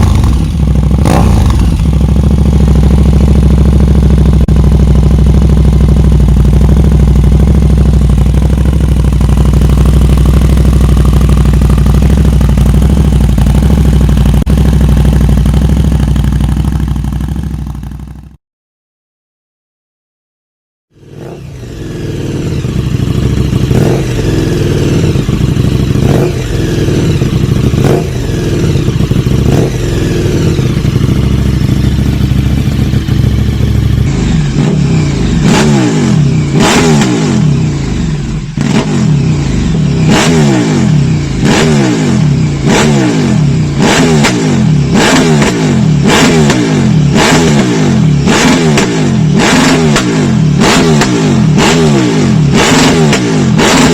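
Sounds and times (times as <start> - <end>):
motorcycle engine revving: 0.0 - 18.4, 20.9 - 53.9.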